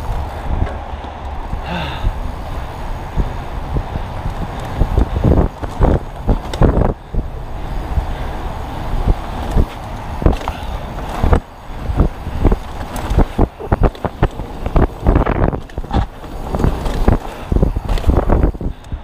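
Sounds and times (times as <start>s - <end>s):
tyres rolling over dirt: 0.0s - 18.8s
bike clattering over bumps: 0.0s - 19.0s
wind buffeting microphone: 0.0s - 19.0s.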